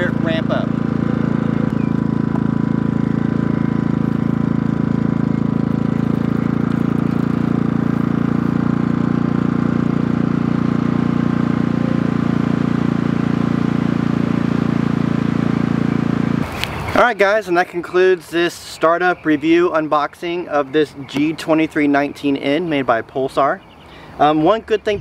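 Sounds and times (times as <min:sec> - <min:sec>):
generator running: 0:00.0 - 0:22.9.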